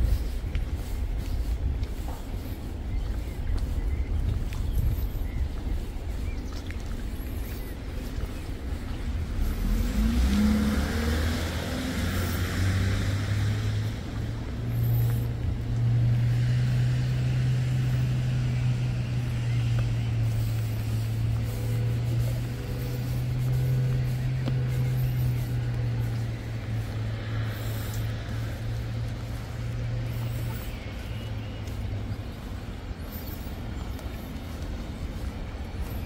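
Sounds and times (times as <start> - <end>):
engine humming: 0.0 - 36.0.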